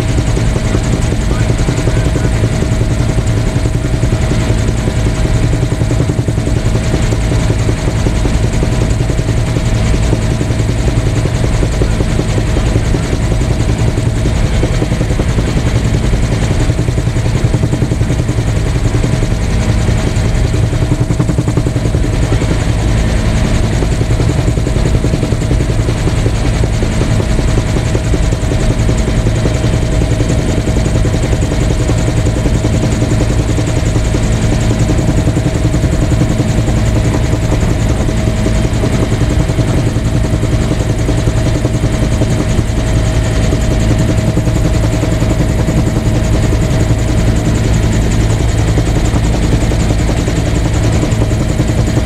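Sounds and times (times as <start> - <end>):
constant engine whine: 0.0 - 52.0
helicopter rotor and engine drone: 0.0 - 52.0.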